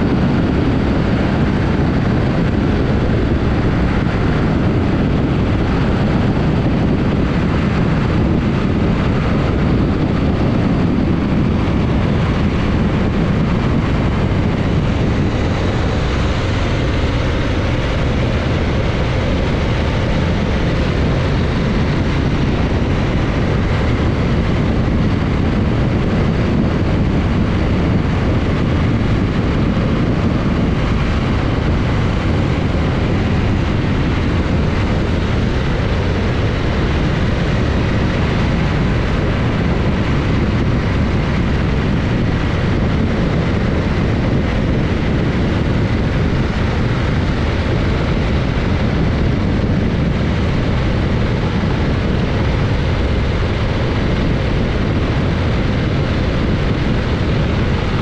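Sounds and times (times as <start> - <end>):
motorcycle road and engine rumble: 0.0 - 58.0
wind buffeting microphone: 0.0 - 58.0.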